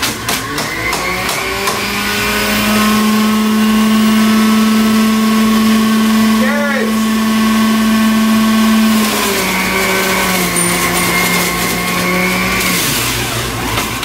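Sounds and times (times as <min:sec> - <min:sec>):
carrots grinding in juicer: 0:00.0 - 0:14.0
juicer motor humming: 0:00.0 - 0:14.0.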